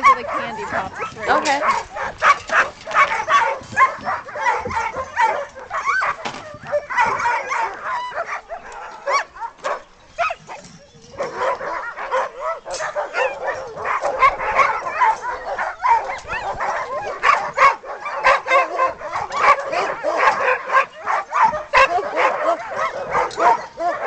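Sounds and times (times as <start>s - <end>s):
dogs barking and yelping: 0.0s - 24.0s.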